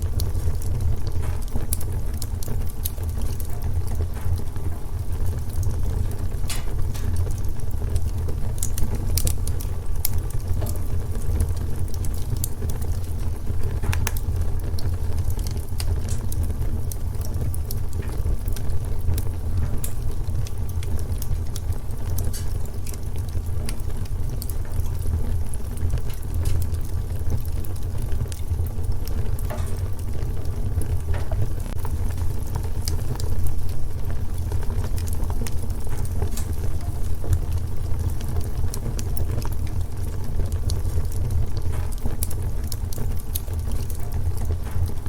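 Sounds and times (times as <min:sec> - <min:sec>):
fire crackles and pops: 0:00.0 - 0:45.0
low rumble of flames: 0:00.0 - 0:45.0.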